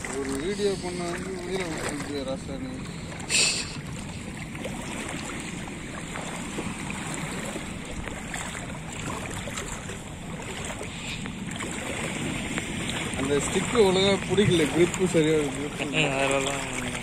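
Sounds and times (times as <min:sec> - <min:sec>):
surf washing over rocks: 0:00.0 - 0:17.0.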